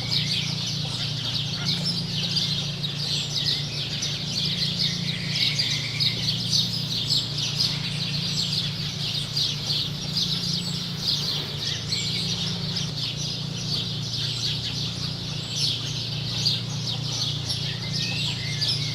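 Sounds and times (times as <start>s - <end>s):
birds chirping: 0.0s - 18.9s
steady low hum: 0.0s - 18.9s.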